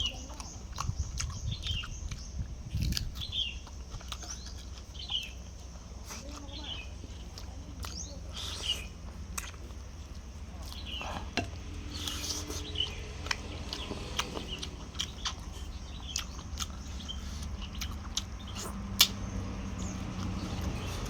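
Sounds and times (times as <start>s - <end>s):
bird chirping: 0.0s - 9.0s, 10.6s - 21.0s.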